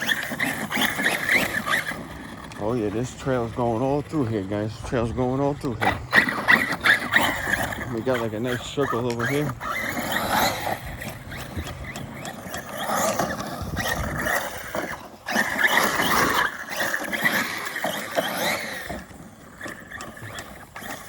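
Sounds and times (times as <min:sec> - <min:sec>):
electric rc car motor whining: 0:00.0 - 0:21.0.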